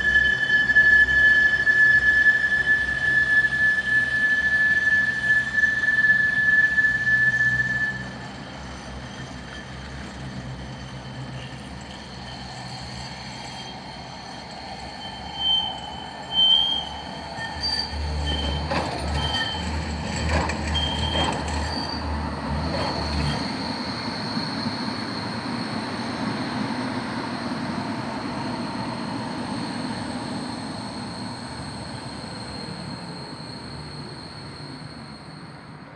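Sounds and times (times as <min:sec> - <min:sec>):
tram wheels squealing on rails: 0:00.0 - 0:35.9.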